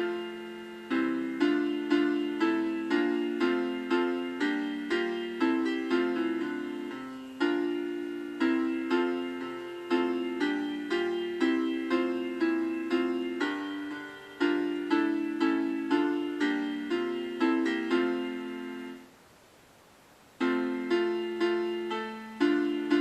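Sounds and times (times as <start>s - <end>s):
piano playing hymn chords: 0.0s - 19.1s, 20.4s - 23.0s.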